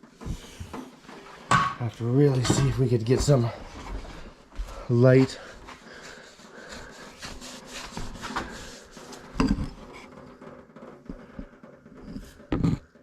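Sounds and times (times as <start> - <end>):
rubbing and scraping handling noises: 0.0 - 13.0.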